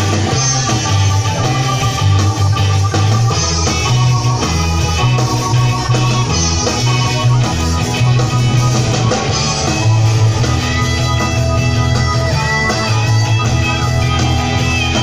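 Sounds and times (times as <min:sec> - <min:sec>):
bass line: 0:00.0 - 0:15.0
guitar: 0:00.0 - 0:15.0
live rock band playing: 0:00.0 - 0:15.0.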